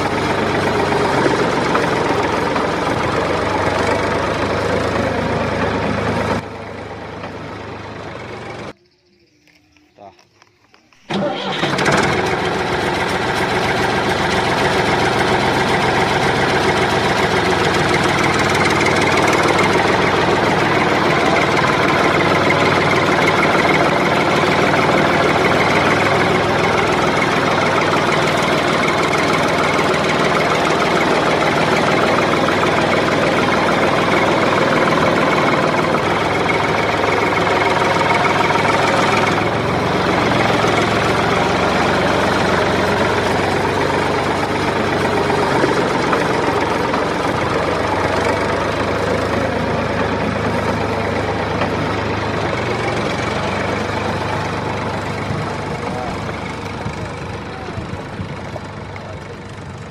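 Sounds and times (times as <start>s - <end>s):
engine idling with knocking beat: 0.0s - 8.8s, 11.1s - 59.9s.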